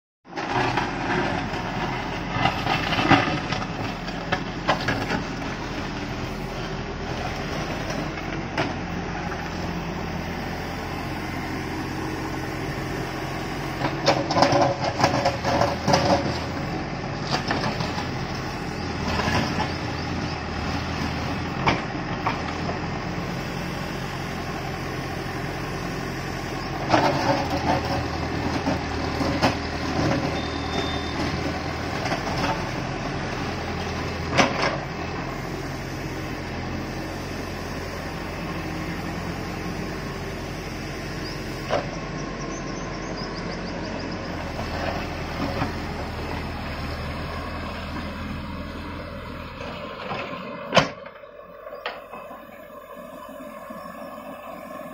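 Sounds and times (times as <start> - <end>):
diesel engine running: 0.3 - 54.9.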